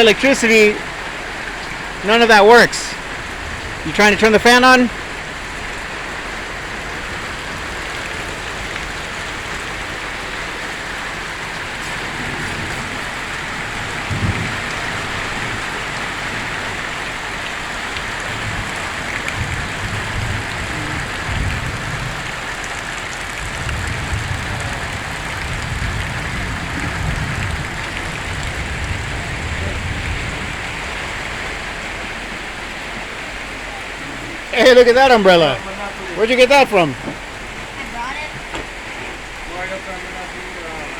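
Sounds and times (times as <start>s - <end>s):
heavy rain falling: 0.0s - 40.9s
low rumbles: 0.0s - 40.9s.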